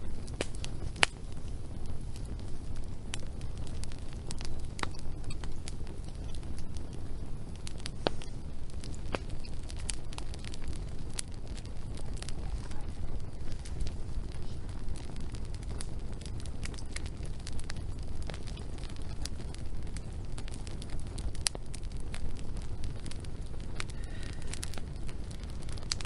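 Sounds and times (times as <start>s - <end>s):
fire crackling and popping: 0.0s - 26.0s
low rush of flame: 0.0s - 26.0s.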